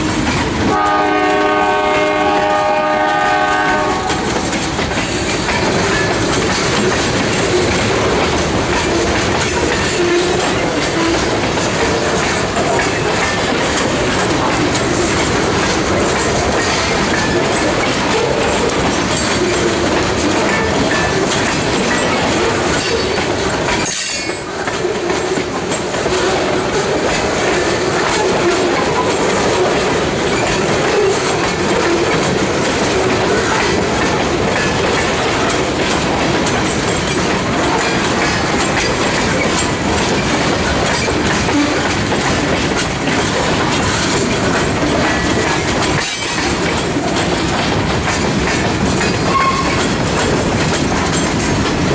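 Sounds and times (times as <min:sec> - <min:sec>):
train wheels clattering over rails: 0:00.0 - 0:51.9.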